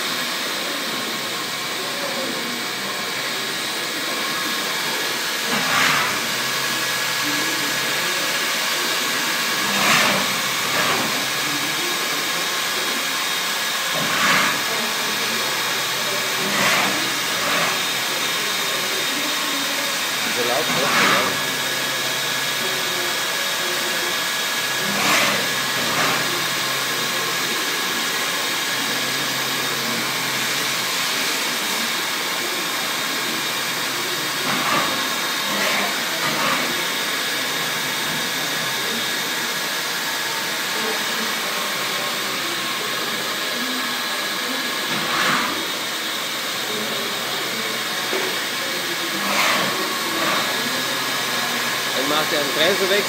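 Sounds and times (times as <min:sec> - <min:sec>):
machine spindle whir: 0:00.0 - 0:53.0.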